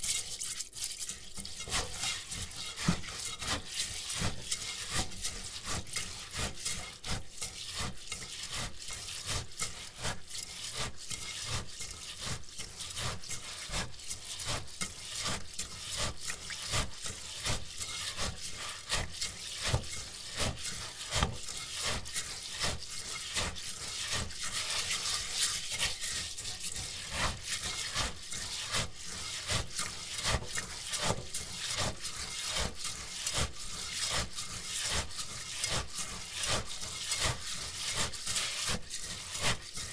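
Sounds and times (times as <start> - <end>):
rice washed in water: 0.0 - 39.9.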